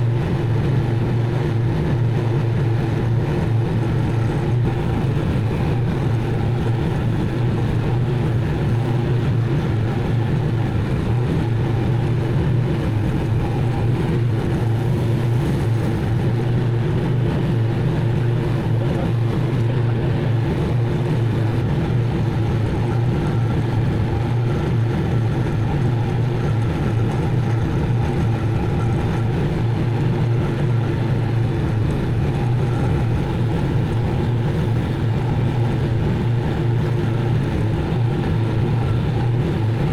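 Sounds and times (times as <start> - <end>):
mower engine droning: 0.0 - 39.9.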